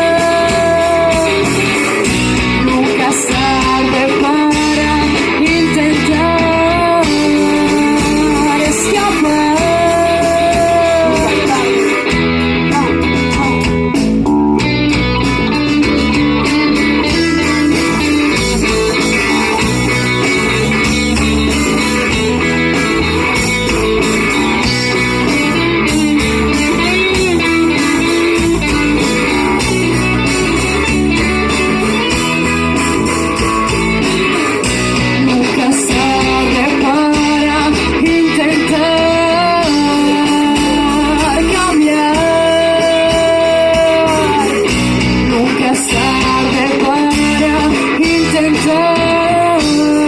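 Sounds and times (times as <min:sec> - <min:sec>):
electric guitar: 0:00.0 - 0:50.0
rock band playing live: 0:00.0 - 0:50.0.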